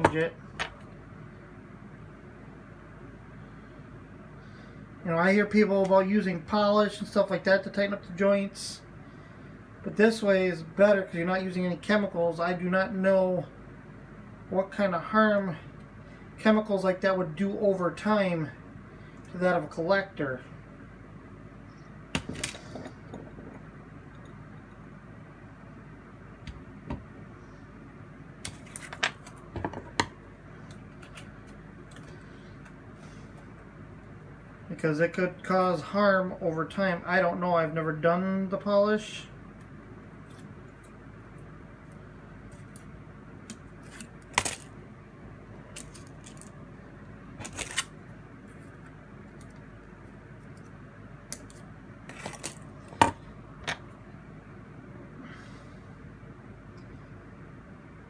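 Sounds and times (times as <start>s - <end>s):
low background hum: 0.0s - 58.0s.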